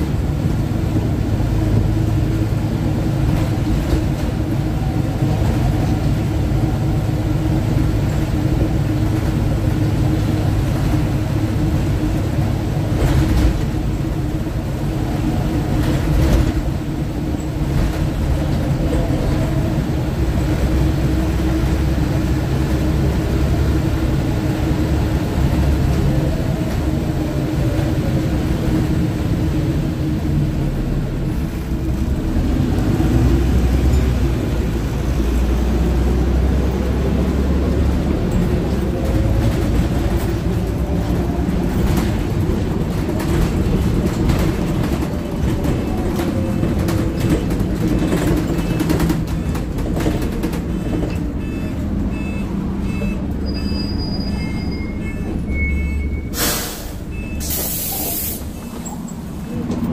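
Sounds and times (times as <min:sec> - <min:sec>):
bus engine drone: 0:00.0 - 0:59.9
road rumble: 0:00.0 - 0:59.9.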